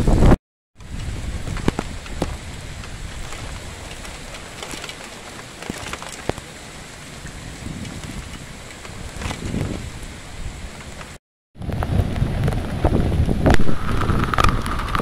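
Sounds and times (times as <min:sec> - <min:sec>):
sharp taps of raindrops: 0:00.8 - 0:06.6, 0:07.2 - 0:09.9, 0:10.6 - 0:15.0
rain falling: 0:00.8 - 0:15.0.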